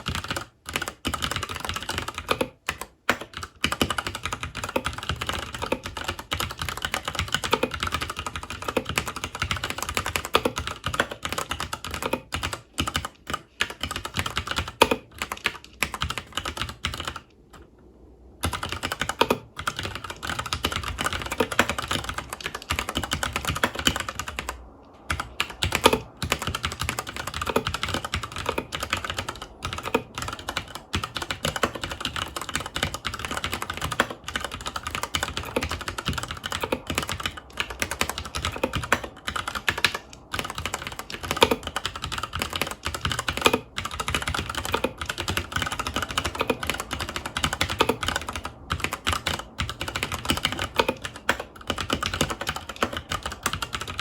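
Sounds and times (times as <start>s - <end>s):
fast mechanical keyboard typing: 0.0s - 17.3s, 18.4s - 54.0s.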